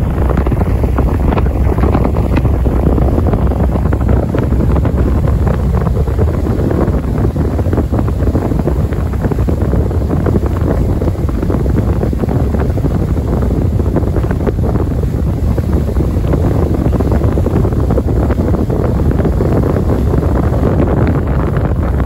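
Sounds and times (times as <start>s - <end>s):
ship engine drone: 0.0s - 22.0s
wind buffeting microphone: 0.0s - 22.0s.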